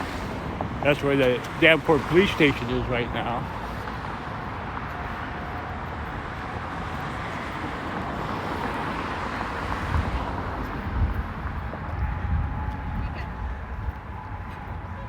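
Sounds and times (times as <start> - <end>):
street traffic road noise: 0.0 - 15.0.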